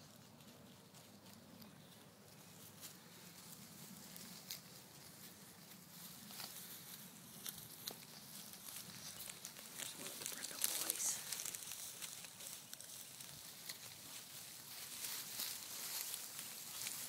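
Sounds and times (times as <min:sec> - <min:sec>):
footsteps through dry grass: 0:00.0 - 0:17.0.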